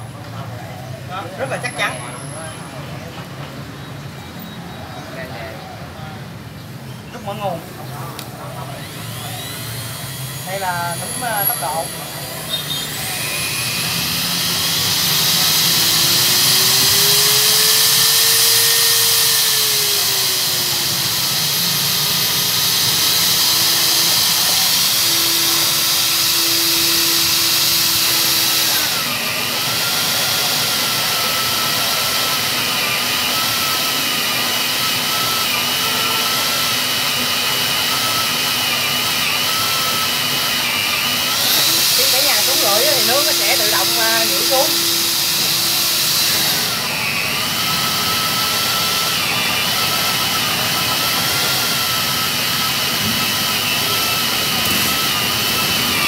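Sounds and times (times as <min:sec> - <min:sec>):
drill motor whining: 0:07.3 - 0:56.0.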